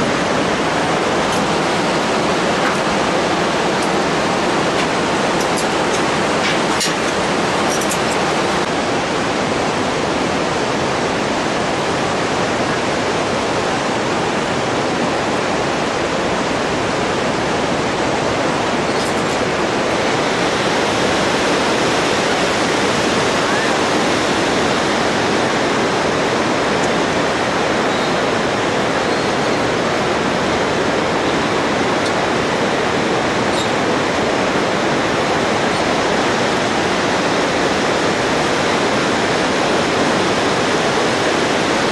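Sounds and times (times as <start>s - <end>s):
whitewater river roaring: 0.0s - 41.9s.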